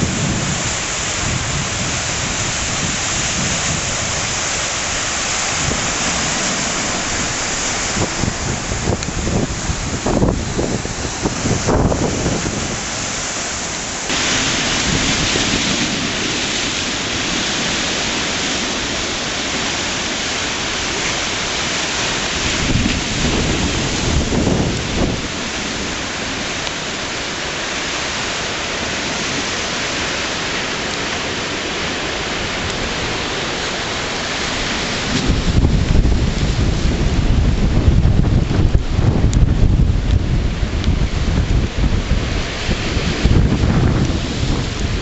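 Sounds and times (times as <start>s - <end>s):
storm rushing hiss: 0.0s - 45.0s.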